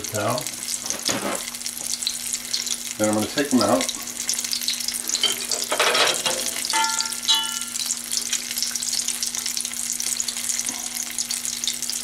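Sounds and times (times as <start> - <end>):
oil sizzling while deep-frying: 0.0 - 12.0.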